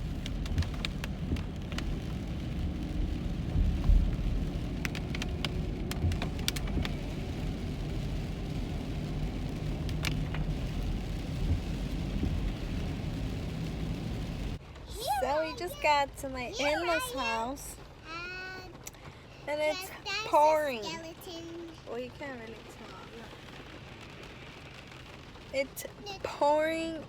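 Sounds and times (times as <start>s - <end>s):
raindrops tapping on car: 0.0s - 27.0s
road rumble inside car: 0.0s - 27.0s.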